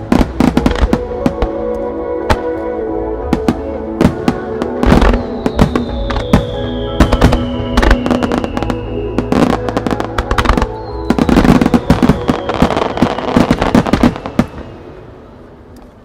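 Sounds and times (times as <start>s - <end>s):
fireworks bursts banging: 0.0s - 2.6s, 3.2s - 15.0s
music from loudspeakers: 0.0s - 14.5s.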